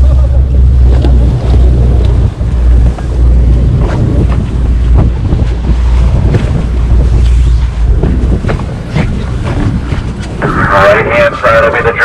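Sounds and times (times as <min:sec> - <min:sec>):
boat engine drone: 0:00.0 - 0:12.0
water rushing past hull: 0:00.0 - 0:12.0
wind buffeting microphone: 0:00.0 - 0:12.0.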